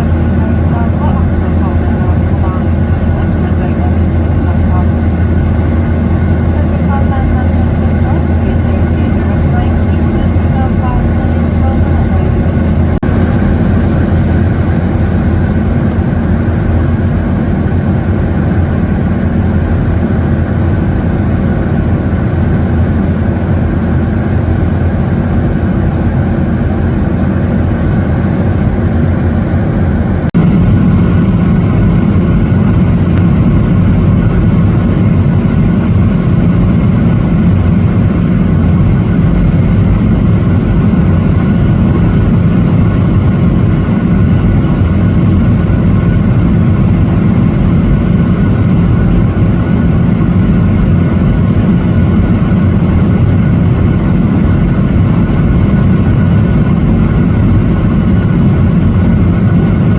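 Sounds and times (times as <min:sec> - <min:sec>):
airliner engine drone: 0:00.0 - 0:59.9
low hum: 0:00.0 - 0:59.9.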